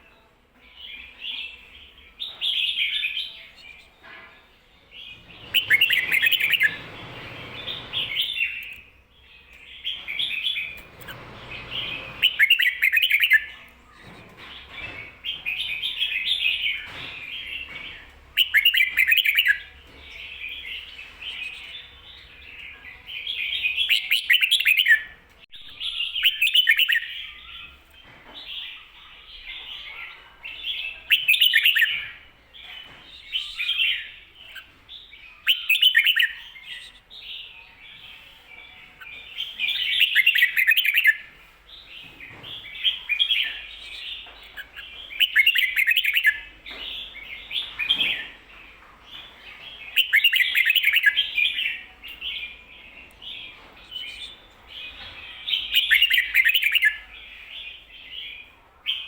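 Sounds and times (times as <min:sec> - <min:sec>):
bulbul singing: 0:00.6 - 0:59.0.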